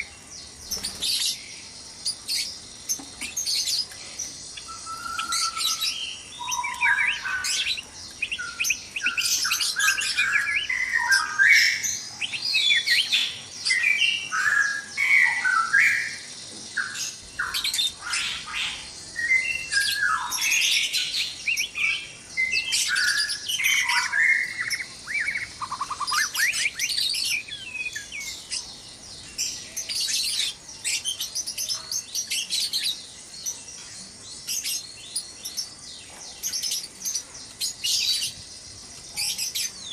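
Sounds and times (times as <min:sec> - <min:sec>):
birds whistling and squawking: 0:00.0 - 0:39.9.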